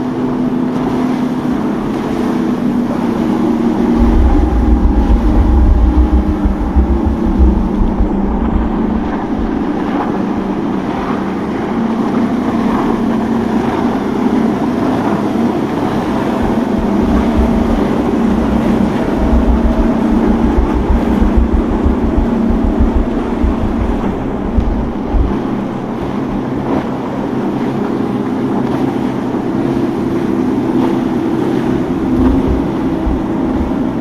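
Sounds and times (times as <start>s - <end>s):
boat engines running: 0.0s - 34.0s
wind rumble on microphone: 0.0s - 34.0s.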